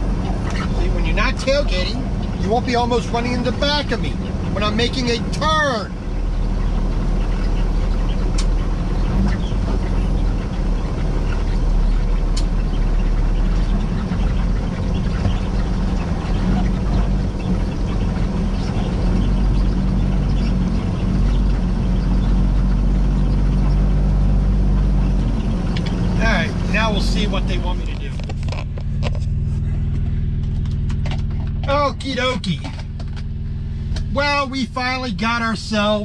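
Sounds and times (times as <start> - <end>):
diesel truck engine running: 0.0 - 36.0.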